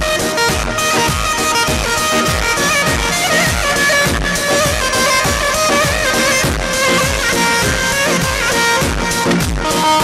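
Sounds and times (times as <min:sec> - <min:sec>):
dance music with ornamented melody: 0:00.0 - 0:10.0
heavy steady drum beat: 0:00.0 - 0:10.0.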